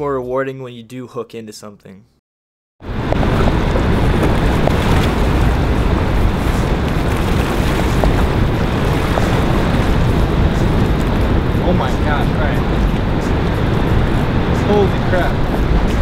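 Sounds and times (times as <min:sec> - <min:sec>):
strong wind buffeting microphone: 0:02.8 - 0:16.0.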